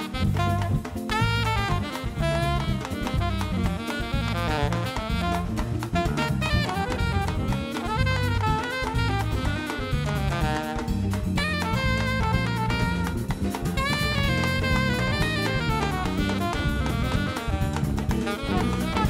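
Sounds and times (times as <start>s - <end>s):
drum kit: 0.0s - 19.0s
electric bass: 0.0s - 19.0s
guitar: 0.0s - 19.0s
hand percussion: 0.0s - 19.0s
horn section melody: 0.0s - 19.0s.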